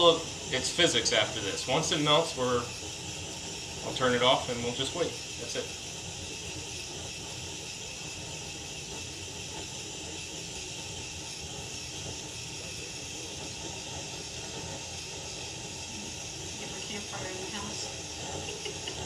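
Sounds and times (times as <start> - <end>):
propane torch hissing: 0.0 - 19.0.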